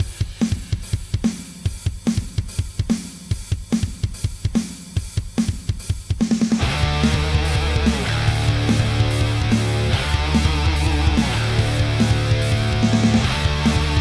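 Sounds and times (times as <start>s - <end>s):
rock drum kit playing: 0.0s - 14.0s.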